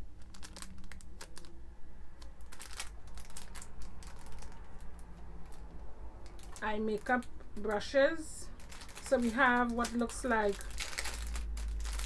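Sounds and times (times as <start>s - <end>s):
packaging crinkling: 0.0s - 7.8s, 8.5s - 12.0s.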